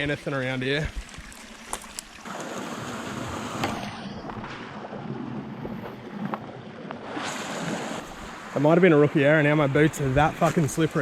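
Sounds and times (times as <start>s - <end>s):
rushing creek water: 0.0s - 4.4s, 5.6s - 11.0s.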